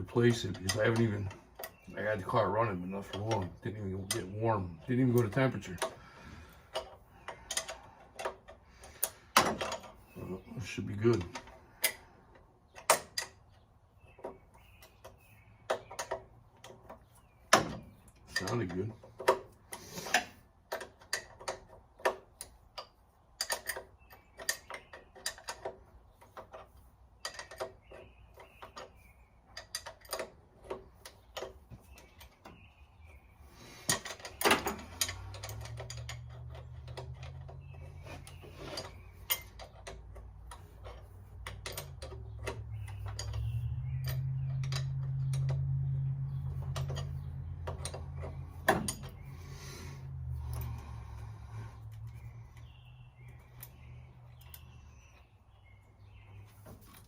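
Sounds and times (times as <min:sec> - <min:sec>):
hand tools clanking on metal: 0:00.0 - 0:57.0.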